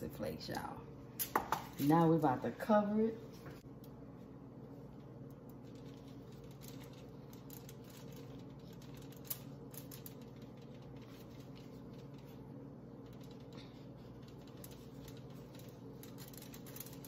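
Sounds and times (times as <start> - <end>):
steady low hum: 0.0 - 17.0
gloved hands rustling pastry: 3.3 - 17.0.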